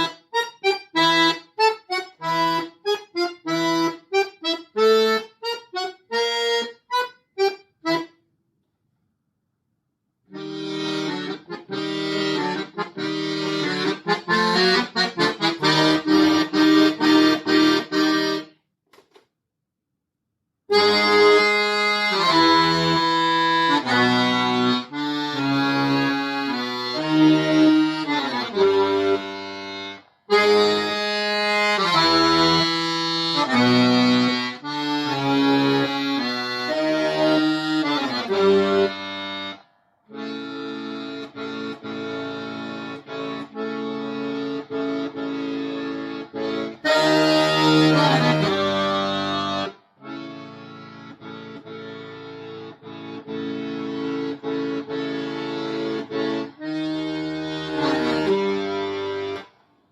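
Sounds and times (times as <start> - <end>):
accordion playing chords: 0.0 - 8.4, 10.2 - 19.1, 20.7 - 59.9.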